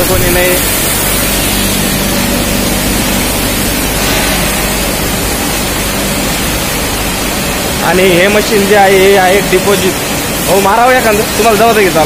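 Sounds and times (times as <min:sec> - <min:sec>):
machinery hiss: 0:00.0 - 0:12.0.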